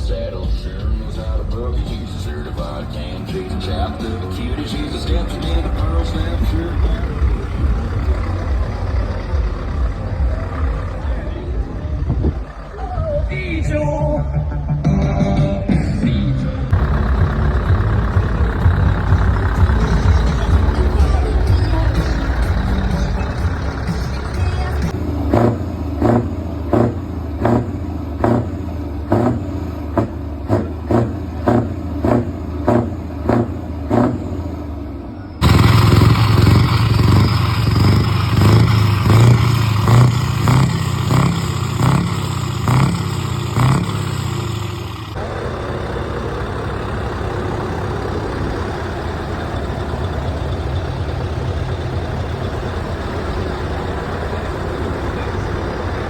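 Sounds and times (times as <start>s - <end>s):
heavy trucks passing: 0.0s - 56.0s.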